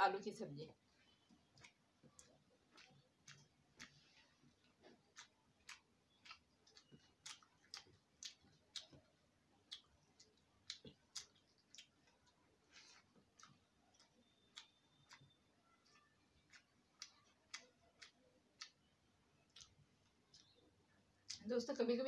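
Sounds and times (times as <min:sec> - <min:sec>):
fingers mixing food on steel plate: 0:00.7 - 0:21.4
chewing clicks: 0:01.3 - 0:21.5.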